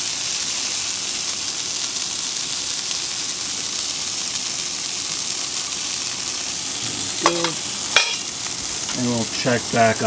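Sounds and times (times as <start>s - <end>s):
vegetables sizzling on a grill: 0.0s - 10.0s.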